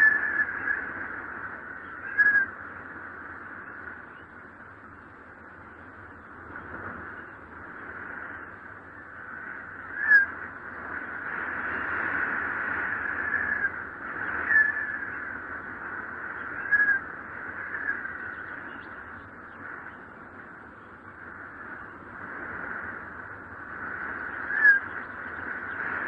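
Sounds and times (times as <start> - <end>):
wind howling and whistling: 0.0 - 26.0.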